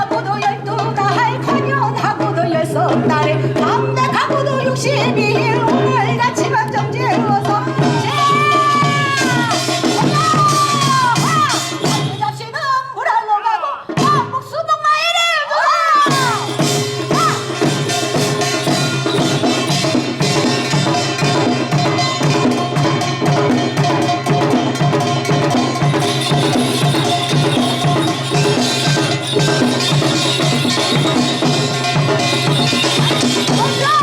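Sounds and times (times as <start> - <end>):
percussion ensemble fast rhythm: 0.0 - 34.0.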